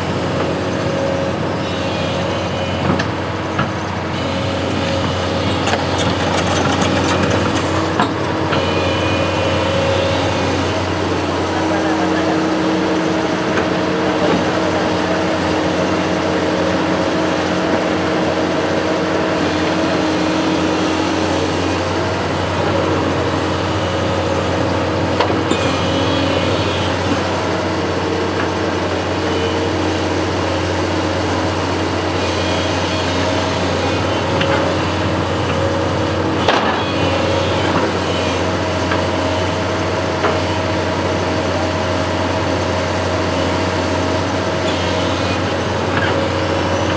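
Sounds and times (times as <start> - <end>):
construction machine engine running: 0.0 - 46.9.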